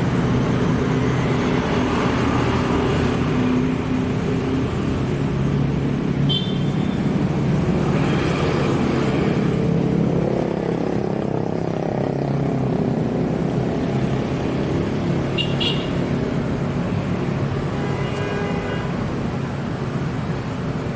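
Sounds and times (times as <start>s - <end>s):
car engines rumbling: 0.0s - 17.8s.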